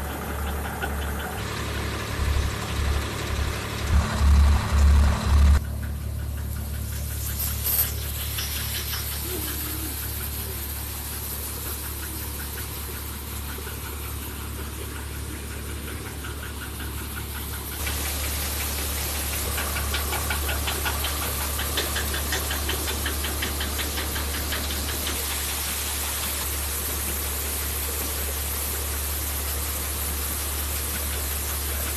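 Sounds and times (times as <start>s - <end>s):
fast even rattle: 0.0s - 27.1s
thresher churning: 0.0s - 31.9s
tractor diesel engine running: 0.0s - 31.9s.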